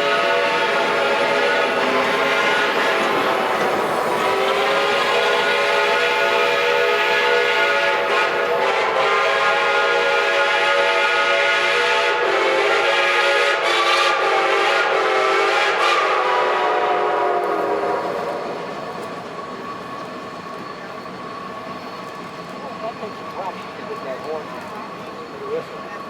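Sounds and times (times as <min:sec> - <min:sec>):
steam locomotive whistles: 0:00.0 - 0:26.0.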